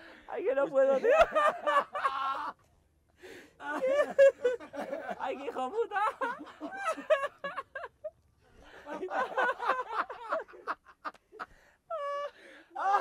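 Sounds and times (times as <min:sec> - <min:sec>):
men laughing: 0:00.8 - 0:02.8, 0:03.6 - 0:13.0.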